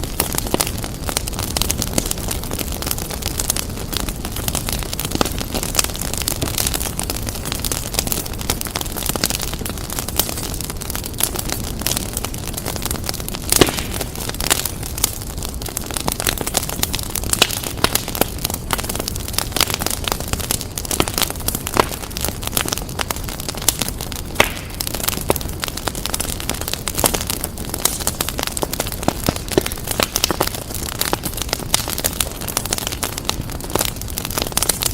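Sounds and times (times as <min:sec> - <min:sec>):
wood fire crackling and popping: 0:00.0 - 0:34.9.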